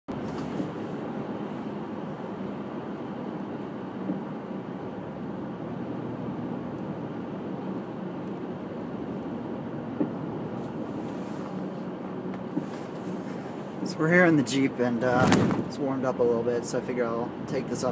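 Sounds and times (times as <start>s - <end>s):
car engine and road noise: 0.0s - 17.9s.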